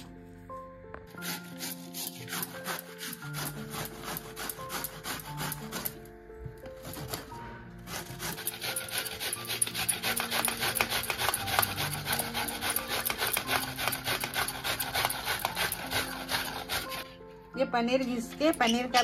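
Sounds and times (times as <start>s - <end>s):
cheese rasping on hand grater: 1.1s - 6.1s, 6.8s - 17.3s.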